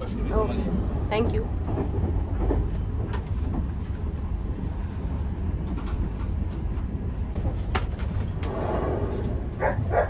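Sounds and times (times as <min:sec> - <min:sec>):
train rumble inside coach: 0:00.0 - 0:10.0.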